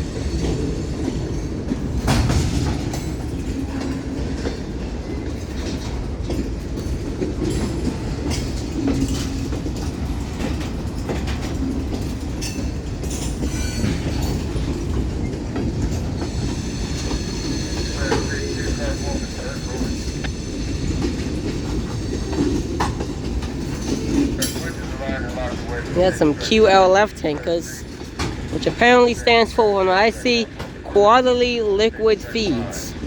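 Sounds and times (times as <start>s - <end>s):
wheels clanking over rail joints: 0.0s - 27.0s
train wheels rumbling on rail: 0.0s - 33.0s.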